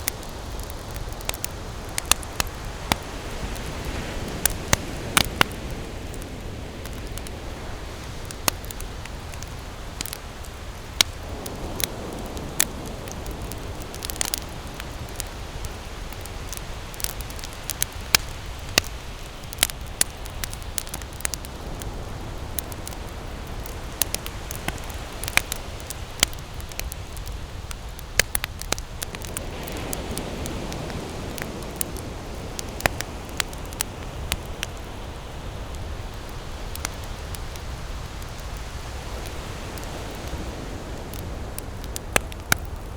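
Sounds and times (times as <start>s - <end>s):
campfire crackling and popping: 0.0s - 42.9s
low rush of fire: 0.0s - 42.9s.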